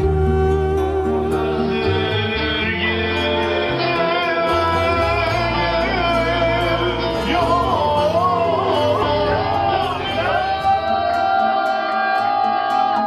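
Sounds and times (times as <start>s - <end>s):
men singing long wavering notes: 0.0s - 13.0s
plucked lute: 0.0s - 13.0s.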